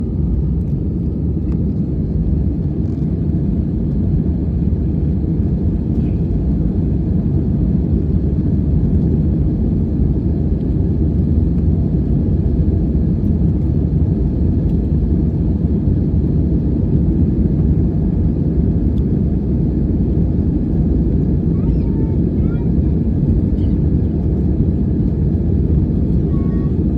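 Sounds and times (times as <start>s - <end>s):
airliner cabin rumble: 0.0s - 26.9s.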